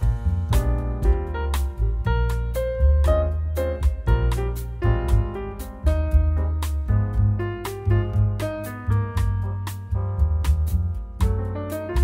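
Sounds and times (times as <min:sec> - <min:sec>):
music with bass and beat: 0:00.0 - 0:12.0.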